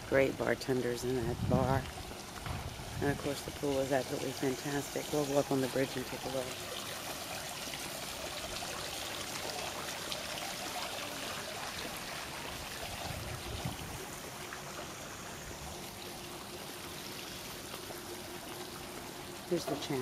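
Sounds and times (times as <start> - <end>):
running water splashing: 0.0 - 20.0.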